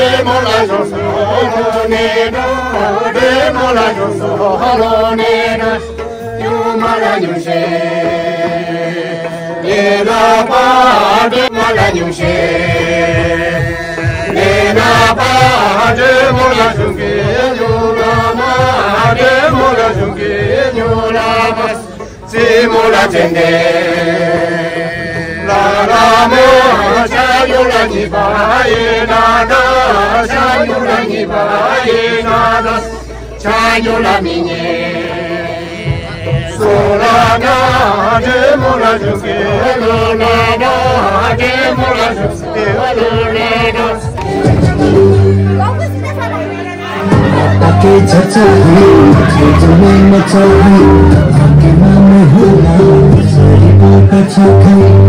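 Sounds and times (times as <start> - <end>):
group singing in unison: 0.0 - 45.8, 46.5 - 55.0.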